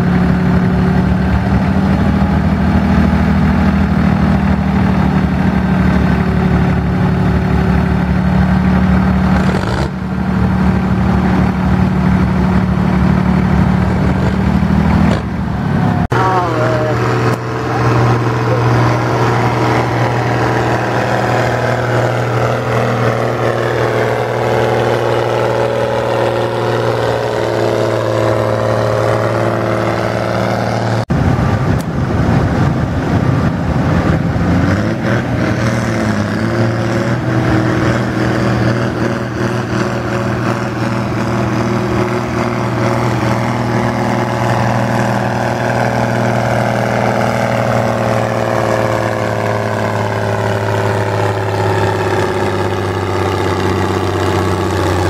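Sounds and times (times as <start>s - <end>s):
diesel tractor engine under load: 0.0s - 55.0s.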